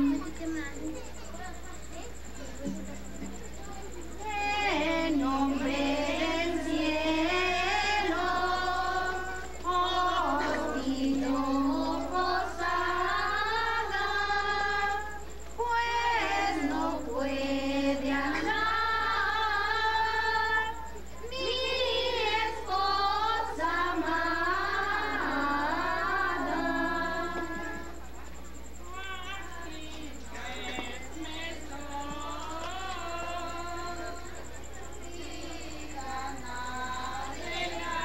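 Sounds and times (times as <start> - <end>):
children and women singing together: 0.0 - 1.4, 2.4 - 28.1, 28.9 - 38.0.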